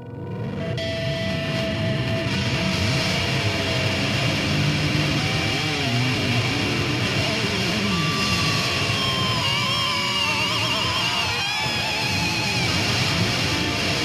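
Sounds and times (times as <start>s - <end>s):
motorcycle engine revving: 2.2s - 14.0s.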